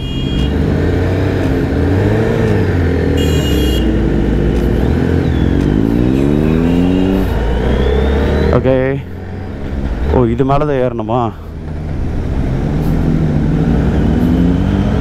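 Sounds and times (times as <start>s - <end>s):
motorcycle engine revving: 0.0s - 10.1s, 11.5s - 15.0s.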